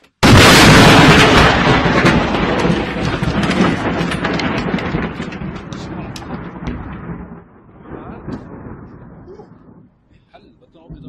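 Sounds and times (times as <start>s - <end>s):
thunderclap: 0.2s - 11.0s.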